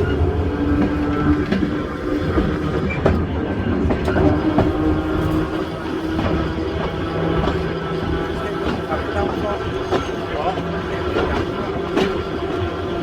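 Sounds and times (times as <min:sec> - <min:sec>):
electric railway car humming: 0:00.0 - 0:13.0
wheels clicking over rail joints: 0:00.0 - 0:13.0.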